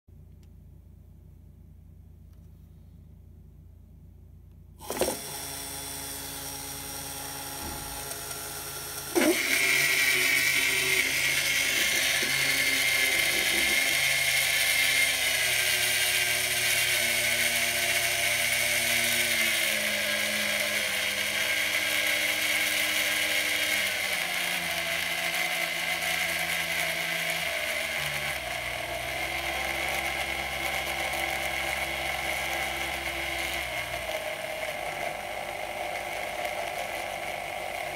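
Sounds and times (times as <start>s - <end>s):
electric motor whining: 4.8s - 37.9s.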